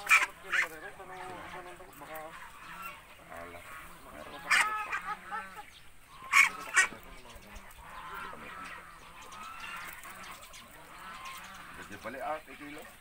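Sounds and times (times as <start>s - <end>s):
distant flock of ducks calling: 0.0s - 13.0s
ducks honking squawks: 0.0s - 13.0s.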